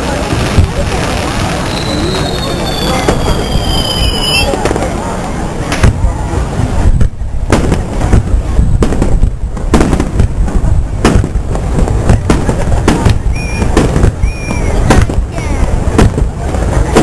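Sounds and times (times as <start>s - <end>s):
fireworks bangs and crackles: 0.0s - 17.0s
low rumble of explosions: 0.0s - 17.0s.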